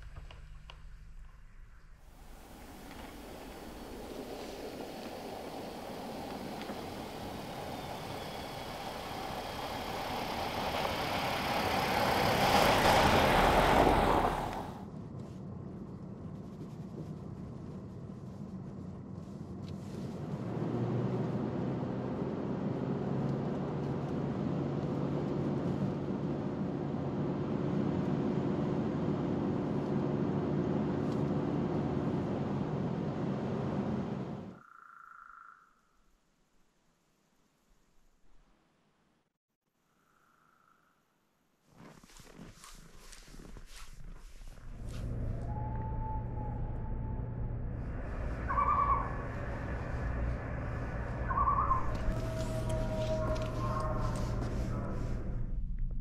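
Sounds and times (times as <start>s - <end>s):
car driving on snowy road: 0.0s - 34.6s, 41.7s - 56.0s
engine and road hum inside car: 2.0s - 34.6s, 43.2s - 56.0s.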